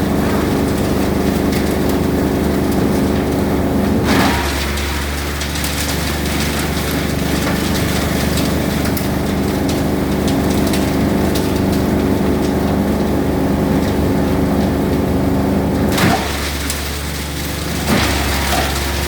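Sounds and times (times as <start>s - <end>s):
machine humming: 0.0s - 19.0s
husk crackling and snapping: 0.1s - 19.0s.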